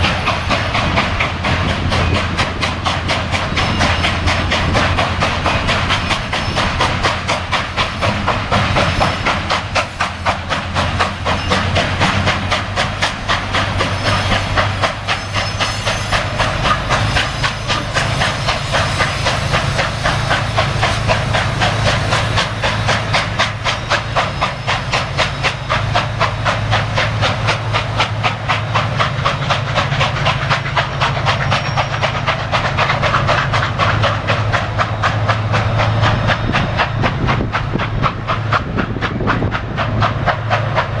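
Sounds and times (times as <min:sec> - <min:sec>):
pulsing train hiss: 0:00.0 - 0:41.0.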